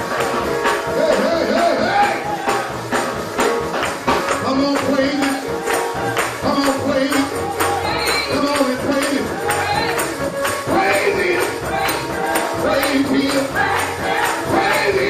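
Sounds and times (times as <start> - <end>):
steady beat: 0.0 - 15.0
voices singing gospel: 0.0 - 15.0.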